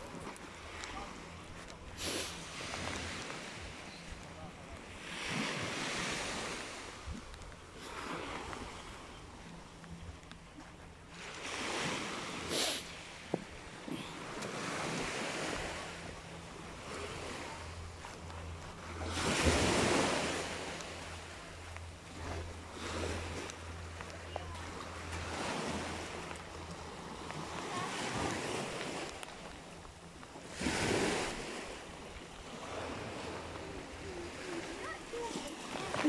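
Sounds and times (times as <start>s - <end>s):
waves washing onto shore: 0.0s - 36.0s.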